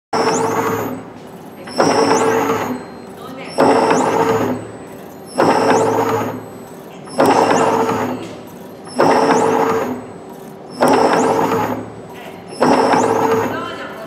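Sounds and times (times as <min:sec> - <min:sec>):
machine clatter with rising whine: 0:00.1 - 0:14.0
machine running hum: 0:00.1 - 0:14.0.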